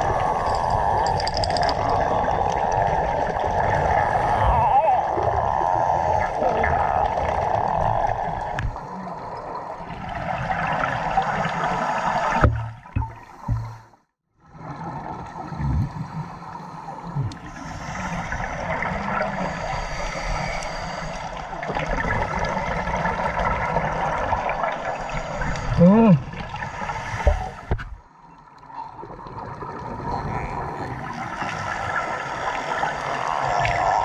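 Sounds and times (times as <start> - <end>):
water rushing and gurgling: 0.0 - 34.0.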